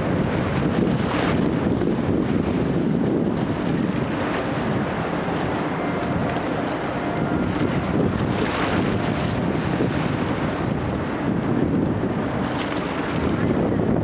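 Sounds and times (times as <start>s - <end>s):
boat noise: 0.0s - 14.0s
rushing harbour water: 0.0s - 14.0s
wind buffeting microphone: 0.0s - 14.0s.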